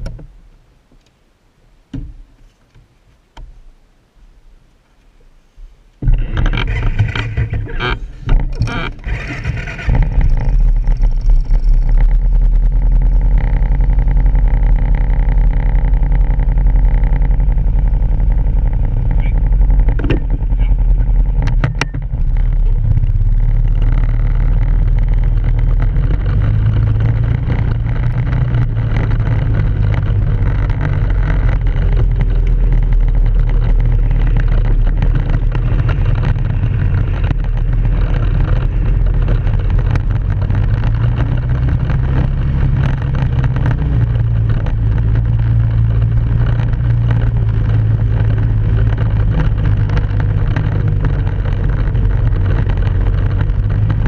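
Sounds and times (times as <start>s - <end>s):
atv engine running: 6.0s - 54.0s.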